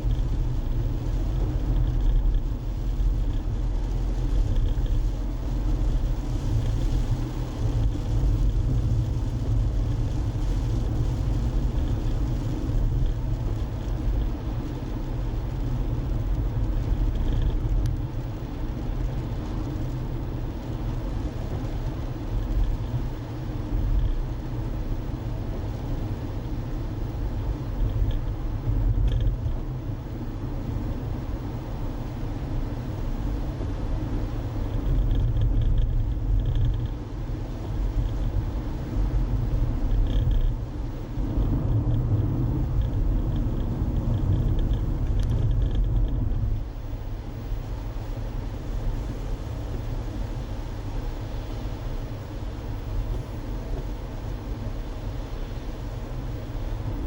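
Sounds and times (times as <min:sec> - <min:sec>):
car engine rumble: 0:00.0 - 0:57.0
tyre road noise: 0:00.0 - 0:57.0.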